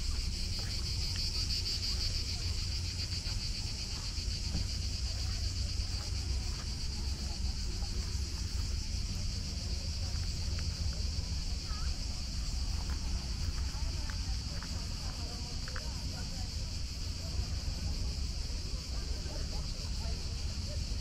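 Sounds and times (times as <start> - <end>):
cicadas buzzing: 0.0 - 21.0.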